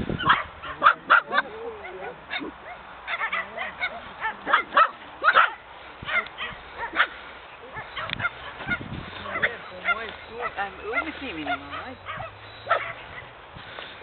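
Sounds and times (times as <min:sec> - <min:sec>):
dogs barking and yipping: 0:00.0 - 0:14.0.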